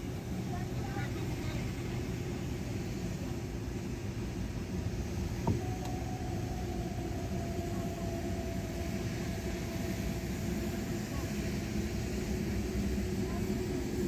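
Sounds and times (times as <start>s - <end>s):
faint higher hum: 0.0s - 14.0s.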